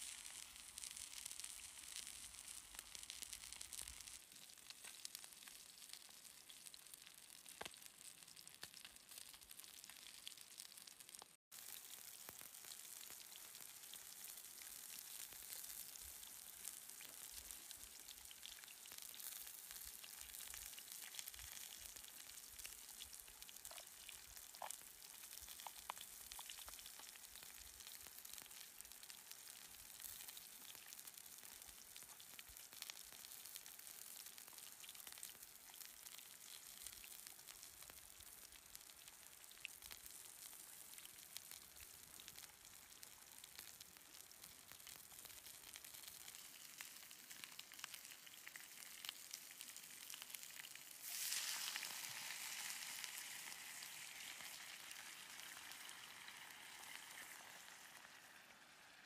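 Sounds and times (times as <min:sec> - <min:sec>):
fish sizzling in a pan: 0:00.0 - 0:59.0.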